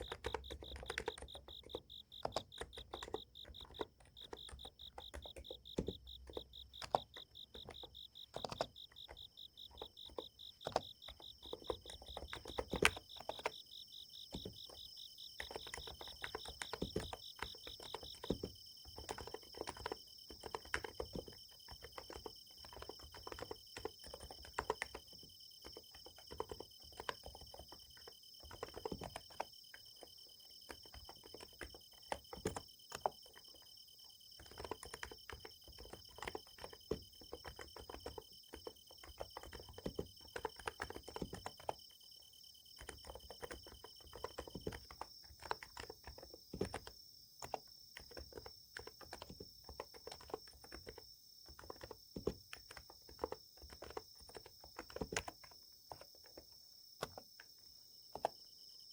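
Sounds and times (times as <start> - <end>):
keyboard keystrokes: 0.0 - 33.7, 34.4 - 42.0, 42.8 - 57.5
pulsing low insect trill: 0.0 - 55.7
high steady insect trill: 0.0 - 58.9.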